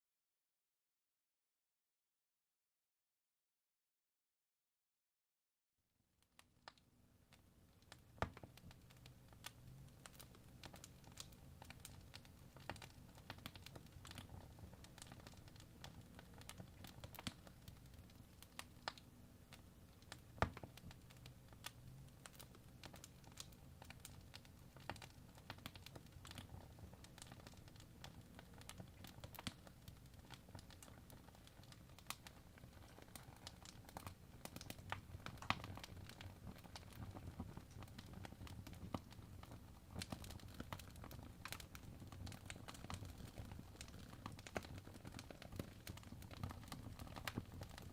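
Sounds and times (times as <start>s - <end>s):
wood fire crackling: 6.6s - 47.9s.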